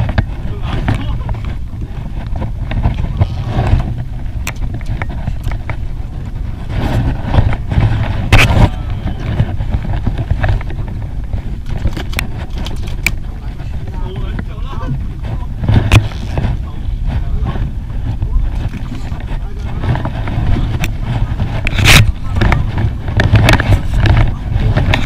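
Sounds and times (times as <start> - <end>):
boat engine low rumble: 0.0 - 25.0.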